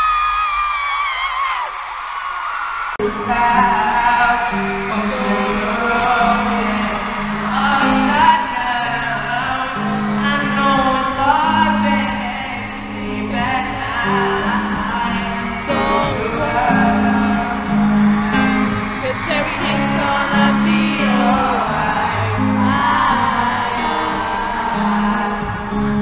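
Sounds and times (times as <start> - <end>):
amplified band with bass: 3.0 - 26.0
man singing: 3.0 - 26.0.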